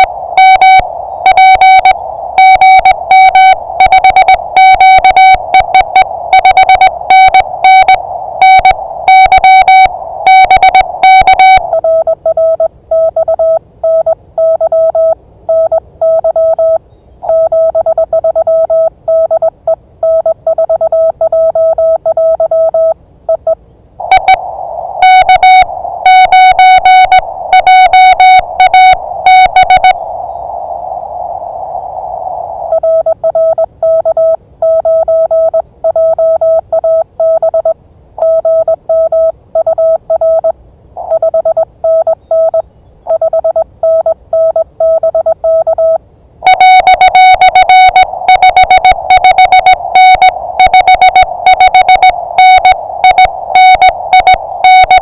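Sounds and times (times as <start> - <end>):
morse code tones: 0.0 - 30.0, 32.6 - 55.0
radio receiver hiss: 0.0 - 37.2, 45.9 - 55.0.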